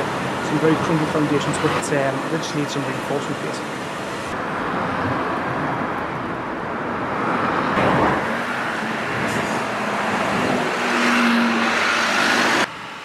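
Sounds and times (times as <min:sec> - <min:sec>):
engine noise: 0:00.0 - 0:13.0.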